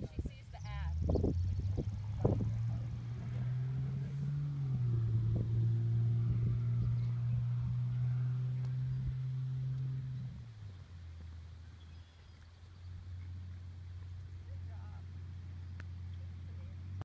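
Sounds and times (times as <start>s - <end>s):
engine running with low hum: 0.0s - 17.0s.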